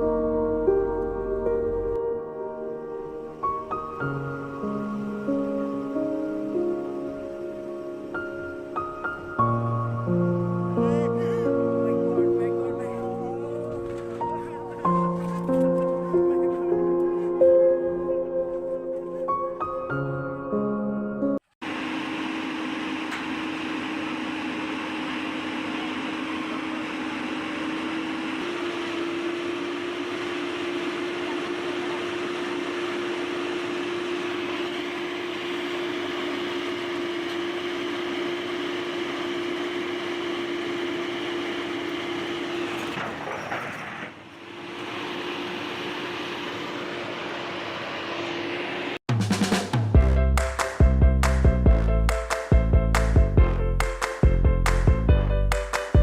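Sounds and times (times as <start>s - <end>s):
heavy machine engine droning: 0.0s - 18.6s, 21.6s - 49.0s.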